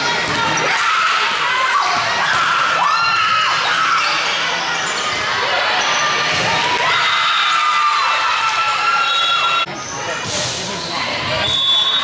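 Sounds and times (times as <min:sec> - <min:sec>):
crowd noise: 0:00.0 - 0:12.0.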